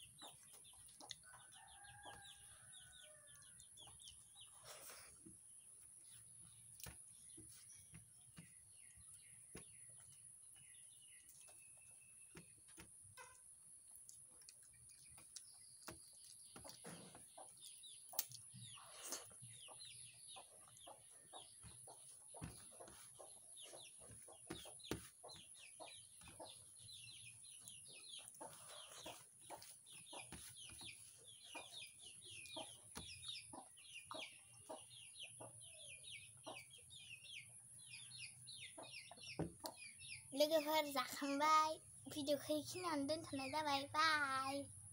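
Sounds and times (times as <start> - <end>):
rapid bird chirps: 0.0 - 44.6.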